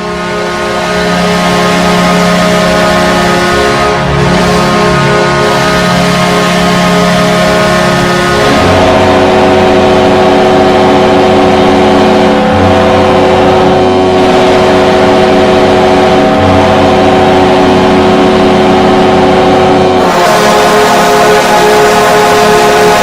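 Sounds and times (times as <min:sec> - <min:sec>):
goal horn blast: 0:00.0 - 0:23.0.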